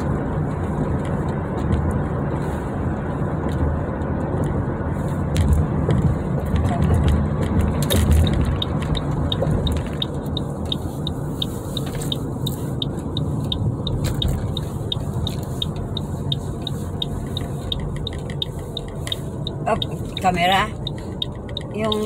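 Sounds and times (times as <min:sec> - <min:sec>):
car cabin road noise: 0:00.0 - 0:22.0
turn signal ticking: 0:00.0 - 0:22.0.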